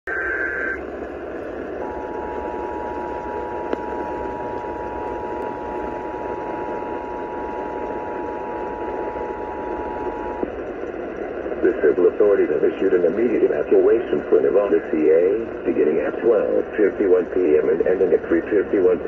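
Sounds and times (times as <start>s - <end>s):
radio hiss and static: 0.1s - 19.0s.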